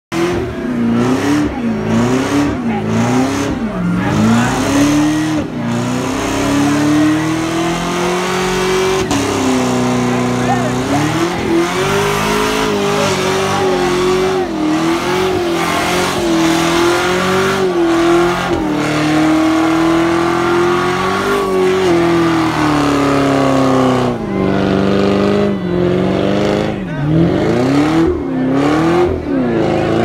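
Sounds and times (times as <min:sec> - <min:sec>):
car engine revving: 0:00.1 - 0:30.0
tyres screeching: 0:00.9 - 0:30.0.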